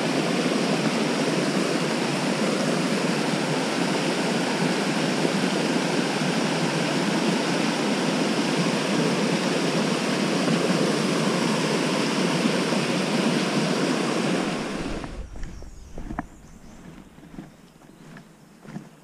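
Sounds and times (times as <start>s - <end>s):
stream rushing over boulders: 0.0s - 17.7s.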